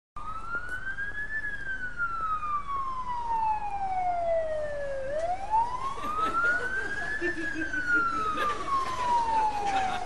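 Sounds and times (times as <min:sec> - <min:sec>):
emergency siren wailing: 0:00.2 - 0:10.0.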